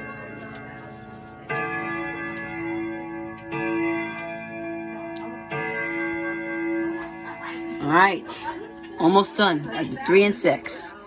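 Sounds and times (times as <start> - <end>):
clock chime rods striking: 0.0 - 10.8.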